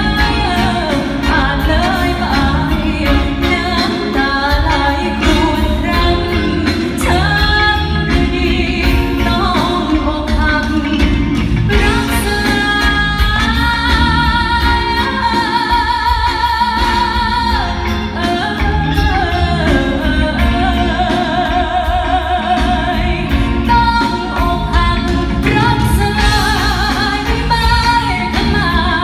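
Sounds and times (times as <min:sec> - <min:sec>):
backing music: 0:00.0 - 0:29.0
woman singing with vibrato: 0:00.0 - 0:29.0.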